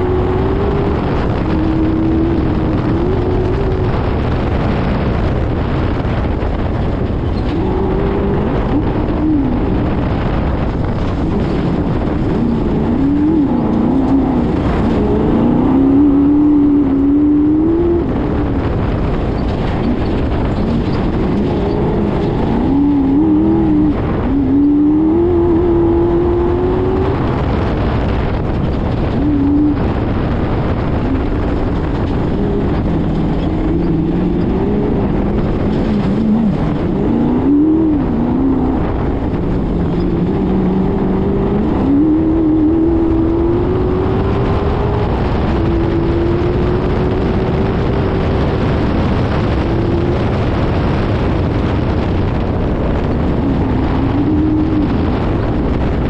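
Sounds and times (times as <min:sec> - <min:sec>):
low rumble of running gear: 0:00.0 - 0:56.0
race car engine revving: 0:00.0 - 0:56.0
wind: 0:00.0 - 0:56.0.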